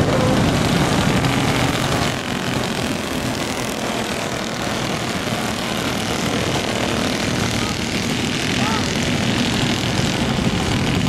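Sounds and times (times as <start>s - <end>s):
go-kart engines buzzing: 0.0s - 11.0s.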